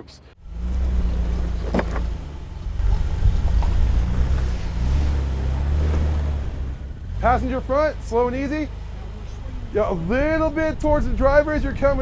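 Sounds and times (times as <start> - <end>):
engine low rumble: 0.3 - 12.0.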